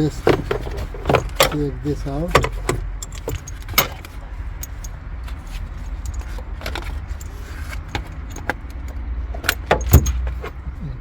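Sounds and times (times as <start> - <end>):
seat belt buckle clinking: 0.0 - 10.6.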